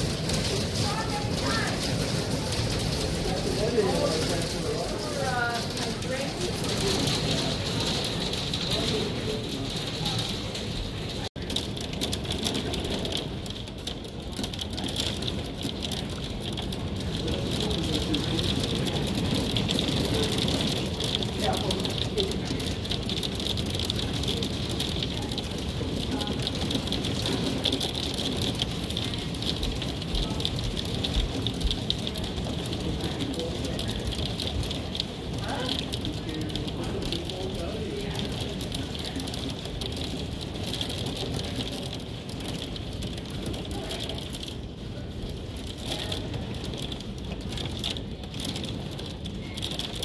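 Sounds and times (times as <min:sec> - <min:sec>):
hail and heavy rain pelting: 0:00.0 - 0:50.0.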